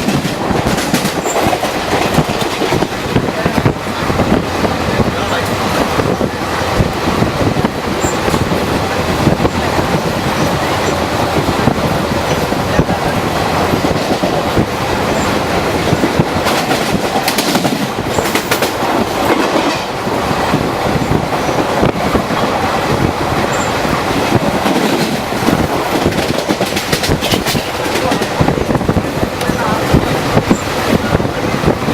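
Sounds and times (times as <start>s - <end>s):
train wheels clickety-clack: 0.0s - 31.9s.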